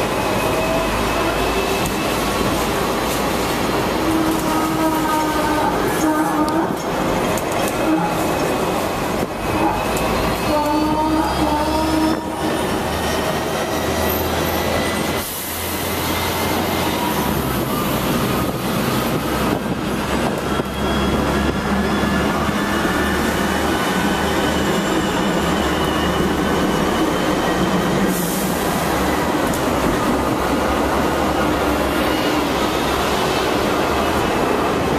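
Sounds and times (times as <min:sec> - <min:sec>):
tram wheels rumbling on rails: 0:00.0 - 0:34.9.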